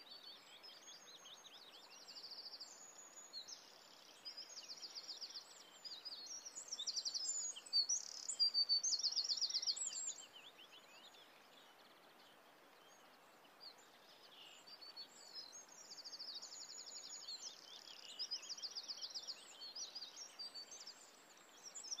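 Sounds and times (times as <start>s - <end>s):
small birds trilling and chirping: 0.0s - 22.0s
steady background hiss: 0.1s - 22.0s.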